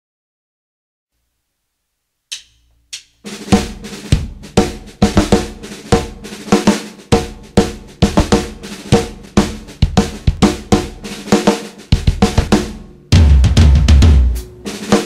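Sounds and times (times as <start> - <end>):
acoustic drum kit playing: 2.3 - 15.0.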